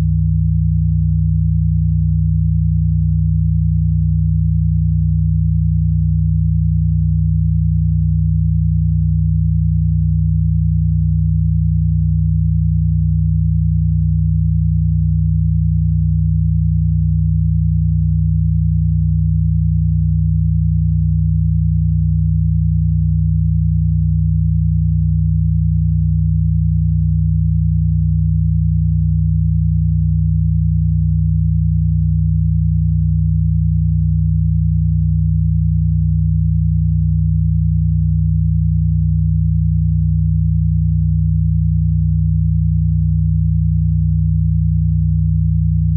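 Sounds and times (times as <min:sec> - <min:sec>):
low electronic sine tone: 0:00.0 - 0:45.9.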